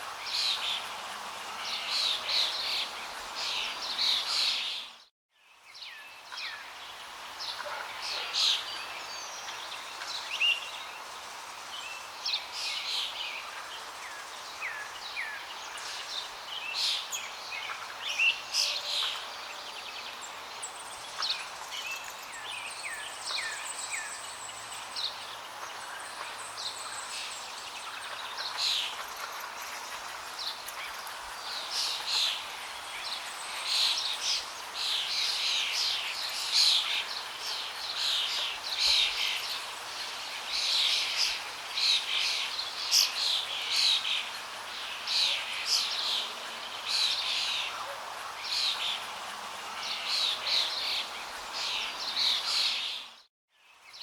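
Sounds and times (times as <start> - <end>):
small birds chirping: 1.5 - 54.0.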